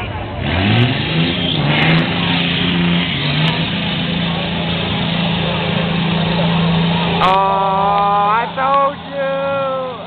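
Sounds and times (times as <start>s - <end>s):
truck engine at high revs: 0.0s - 10.0s.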